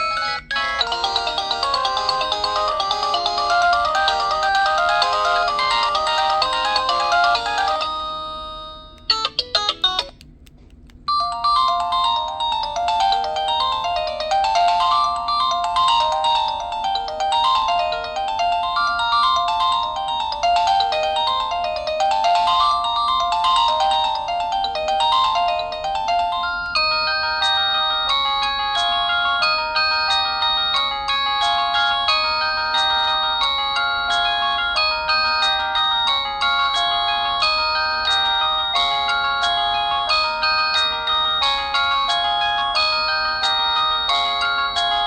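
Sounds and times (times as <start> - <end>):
phone ringtone melody: 0.0 - 10.2, 11.4 - 45.0.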